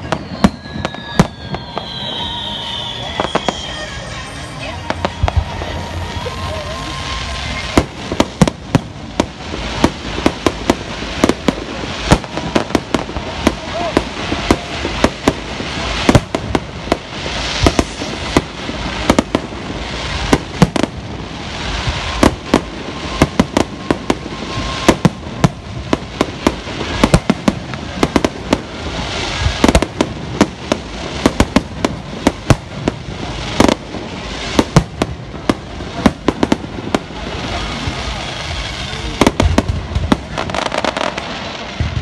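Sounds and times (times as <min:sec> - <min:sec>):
continuous hiss: 0:00.0 - 0:42.0
fireworks bursting: 0:00.0 - 0:42.0.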